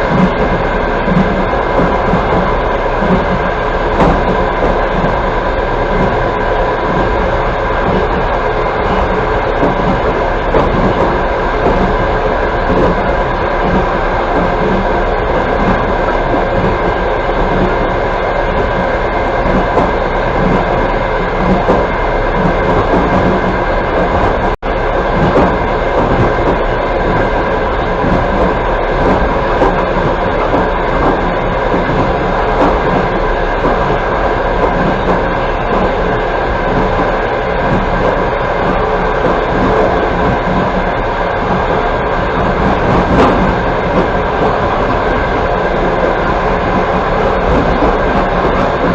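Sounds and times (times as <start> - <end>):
train wheels on rails: 0.0 - 48.9.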